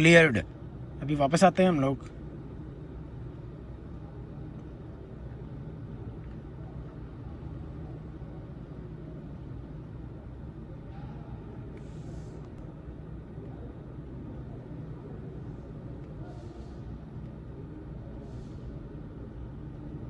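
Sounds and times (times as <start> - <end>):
low background rumble and hum: 0.0 - 20.0.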